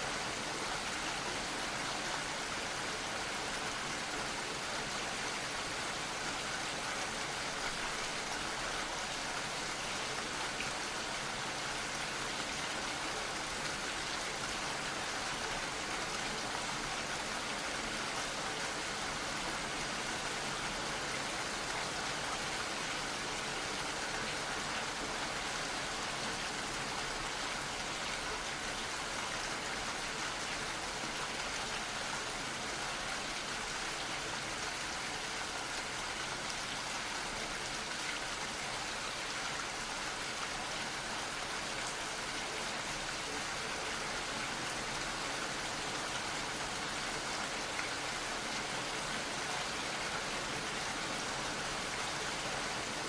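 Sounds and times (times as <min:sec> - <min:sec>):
gentle rain patter: 0:00.0 - 0:53.0.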